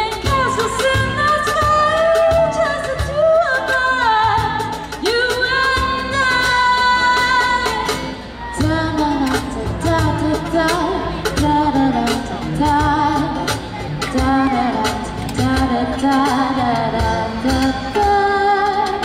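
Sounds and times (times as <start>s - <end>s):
amplified band with drum beat: 0.0s - 19.0s
woman singing pop song: 0.0s - 19.0s.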